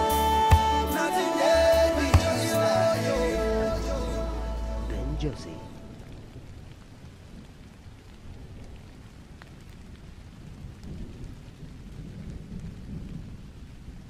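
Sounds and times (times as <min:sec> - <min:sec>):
steady rain: 0:00.0 - 0:14.0
thunder rumbling: 0:00.1 - 0:14.0.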